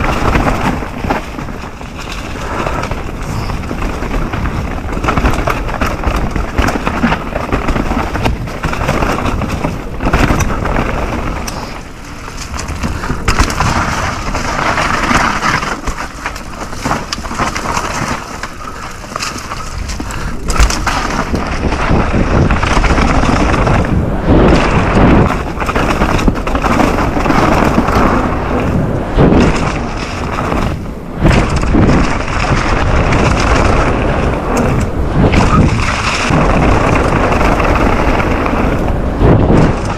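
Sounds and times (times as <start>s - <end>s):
bike knocking over bumps: 0.0s - 39.9s
bike tyres rolling over rocks: 0.0s - 39.9s
wind rumbling on microphone: 0.0s - 39.9s.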